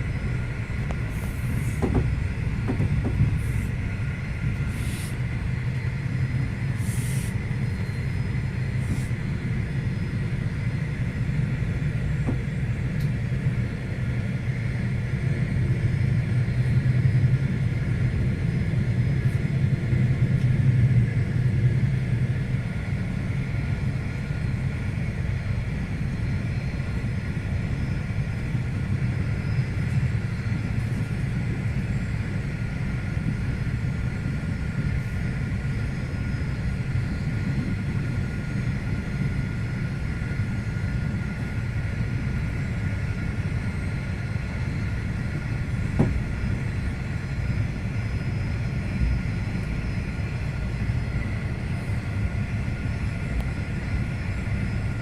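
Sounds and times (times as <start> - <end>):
train rumbling at speed: 0.0 - 55.0.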